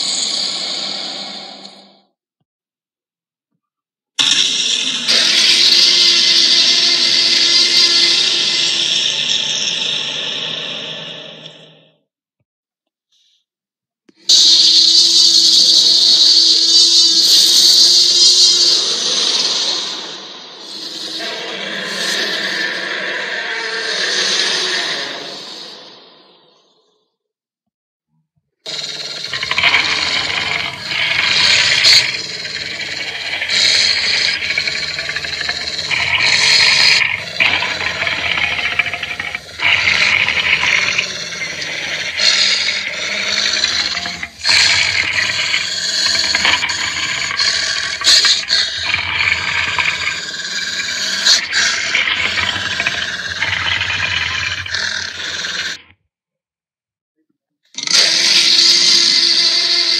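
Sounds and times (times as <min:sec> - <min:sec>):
monster roars and growls: 0:00.0 - 0:02.1, 0:04.2 - 0:11.8, 0:14.3 - 0:26.9, 0:28.6 - 0:55.8, 0:57.8 - 0:59.9.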